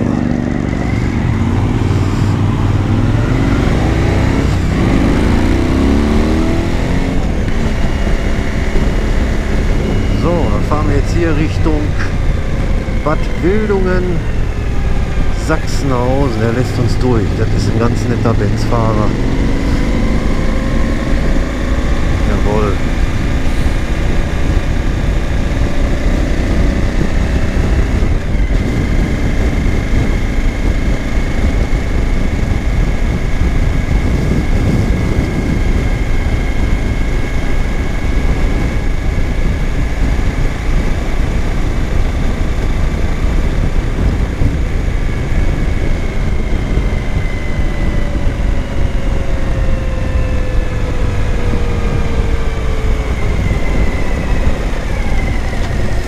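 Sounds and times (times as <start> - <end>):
motorcycle engine constant note: 0.0 - 56.0
wind rush on microphone: 0.0 - 56.0.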